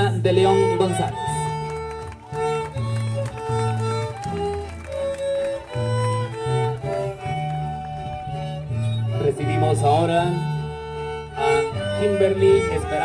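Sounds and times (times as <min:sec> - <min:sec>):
slow string-like melody: 0:00.0 - 0:13.0
sustained low bass notes: 0:00.0 - 0:13.0.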